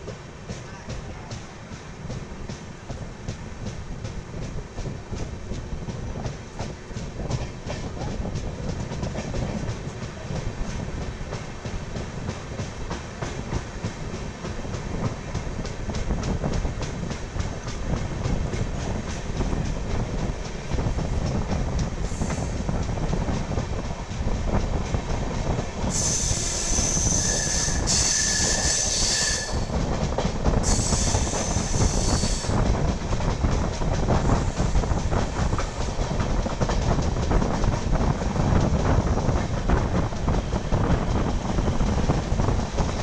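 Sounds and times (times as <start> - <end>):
train wheels rumbling: 0.0 - 43.0
wheels clickety-clack over rail joints: 0.0 - 43.0.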